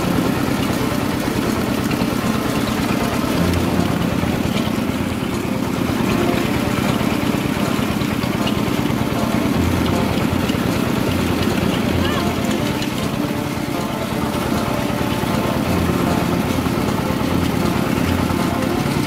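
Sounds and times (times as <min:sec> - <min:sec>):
rice milling machine droning: 0:00.0 - 0:19.0.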